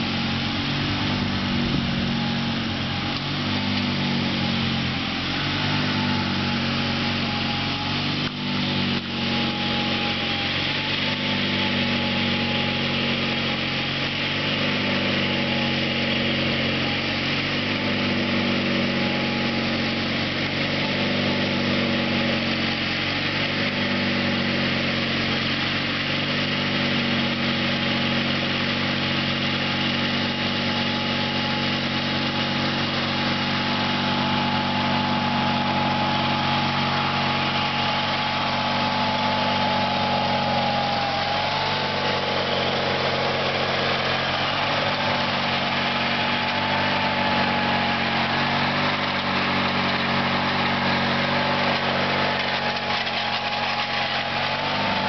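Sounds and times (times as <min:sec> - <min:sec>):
lawn tractor engine mowing: 0:00.0 - 0:55.0.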